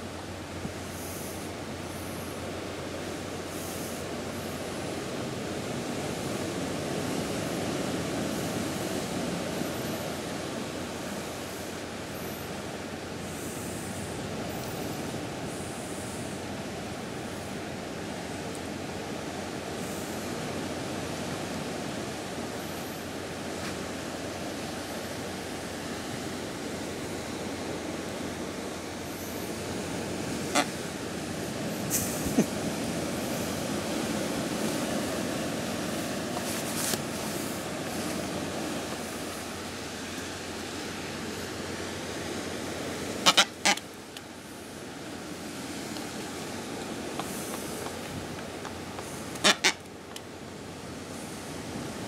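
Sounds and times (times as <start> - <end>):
faint high hum: 0.0 - 52.0
wind and sea rushing: 0.0 - 52.0.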